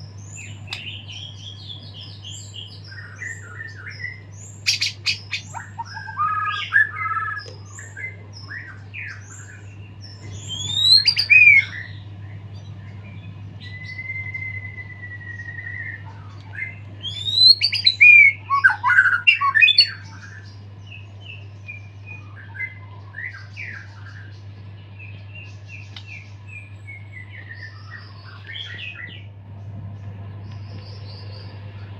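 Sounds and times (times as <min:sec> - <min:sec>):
bird singing varied song: 0:00.0 - 0:31.9
low hum: 0:00.0 - 0:31.9.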